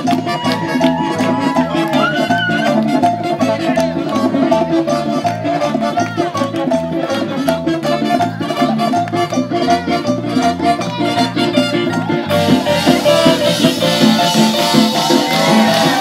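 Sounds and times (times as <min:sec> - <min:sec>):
salsa dance band playing: 0:00.0 - 0:16.0.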